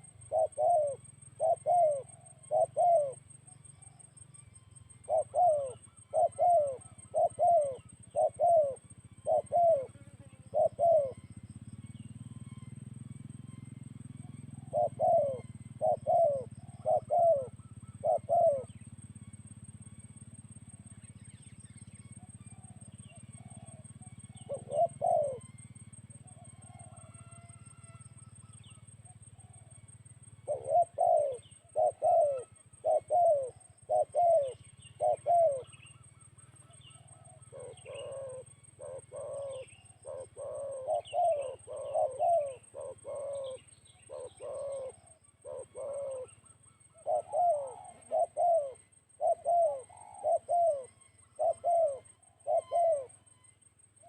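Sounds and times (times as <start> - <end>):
doves cooing: 0.0 - 53.4.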